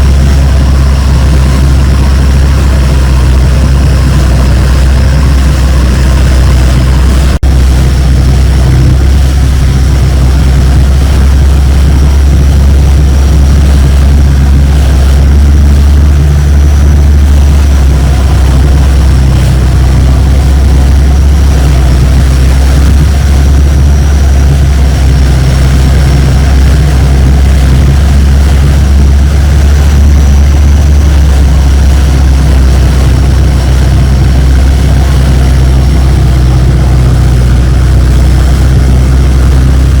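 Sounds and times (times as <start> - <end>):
boat engine droning: 0.0 - 40.0.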